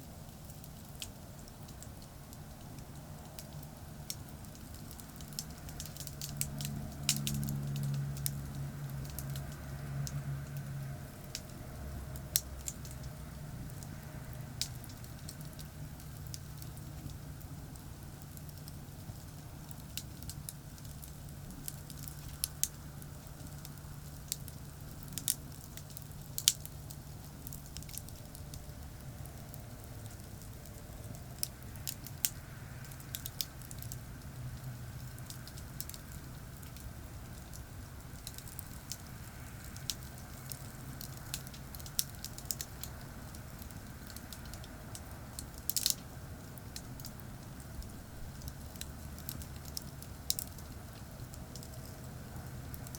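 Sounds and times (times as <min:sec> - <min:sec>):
campfire crackling and popping: 0:00.0 - 0:52.9
distant highway traffic rumble: 0:00.0 - 0:52.9.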